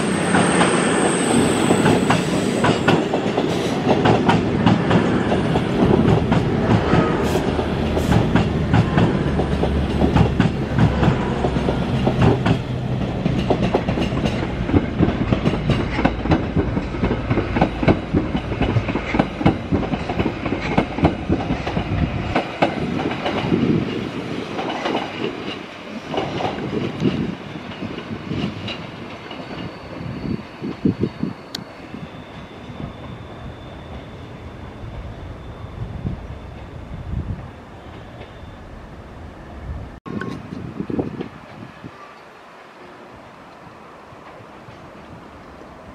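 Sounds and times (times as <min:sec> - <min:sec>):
train low rumble: 0:00.0 - 0:42.1.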